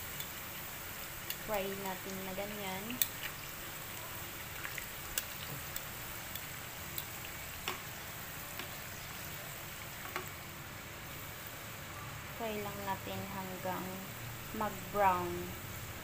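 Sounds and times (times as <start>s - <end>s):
deep-frying in hot oil: 0.0s - 16.0s.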